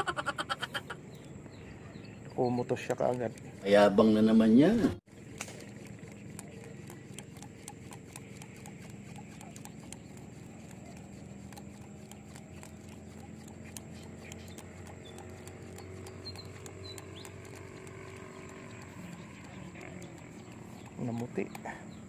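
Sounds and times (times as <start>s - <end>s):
sharp irregular clicks: 2.6s - 3.7s, 5.2s - 22.0s.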